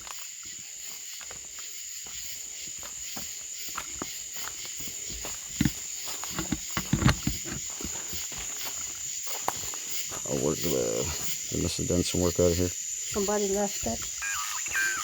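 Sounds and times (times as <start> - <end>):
crickets and night insects chorus: 0.0 - 15.0.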